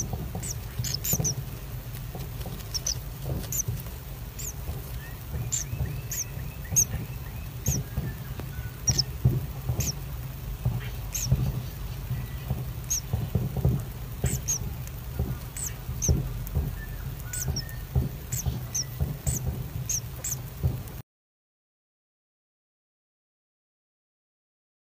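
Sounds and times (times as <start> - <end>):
kingfisher chicks squeaking: 0.0 - 20.5
low steady hum: 0.0 - 21.0.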